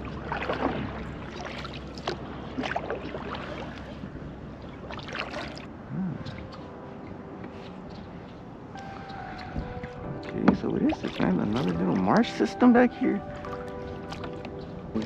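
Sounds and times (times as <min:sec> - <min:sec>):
paddle strokes splashing water: 0:00.0 - 0:15.0
wind rumble on microphone: 0:00.0 - 0:15.0.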